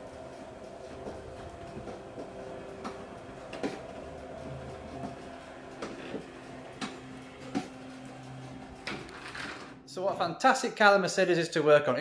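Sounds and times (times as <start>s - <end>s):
garage door motor hum: 0.0s - 9.9s.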